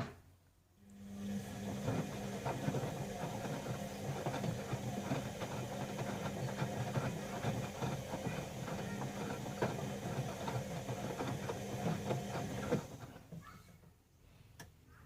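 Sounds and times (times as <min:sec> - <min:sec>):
washing machine motor humming: 0:00.8 - 0:13.4.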